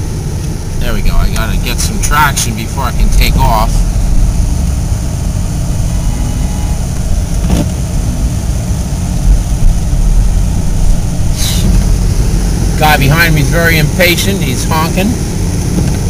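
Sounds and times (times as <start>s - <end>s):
car engine under throttle: 0.0s - 16.0s.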